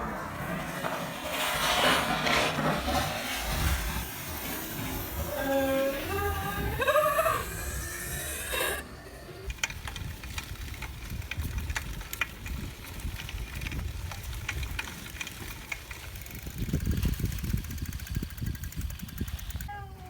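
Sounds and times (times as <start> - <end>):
wind rumble on microphone: 0.0 - 20.0
bike clicks and ticks: 0.5 - 20.0.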